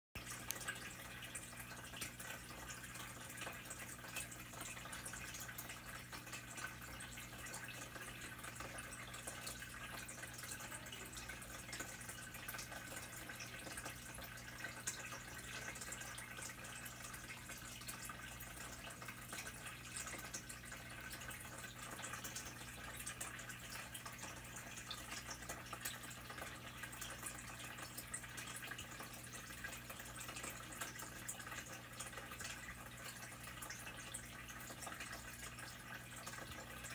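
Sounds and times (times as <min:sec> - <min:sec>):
water drips and clicks: 0:00.2 - 0:36.9
water trickling: 0:00.2 - 0:36.9.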